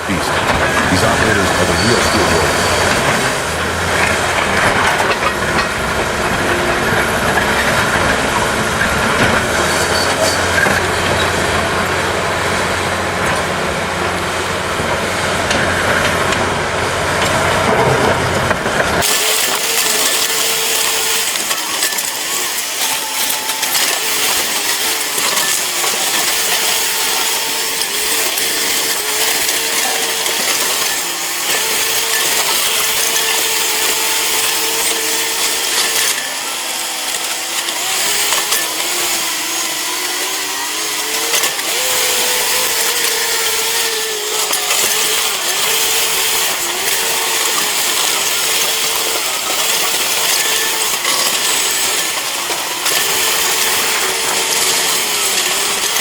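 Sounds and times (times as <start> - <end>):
heavy machinery engine hum: 0.0 - 56.0
hissy mechanical clatter: 0.0 - 56.0.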